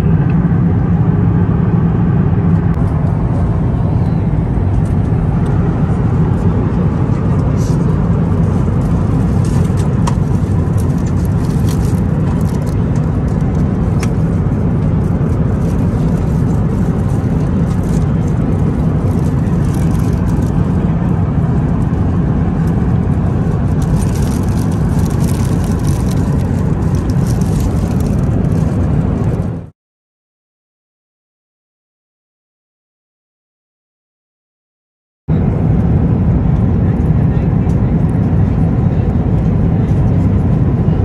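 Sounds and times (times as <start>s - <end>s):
airplane cabin drone: 0.0s - 29.7s, 35.3s - 41.0s.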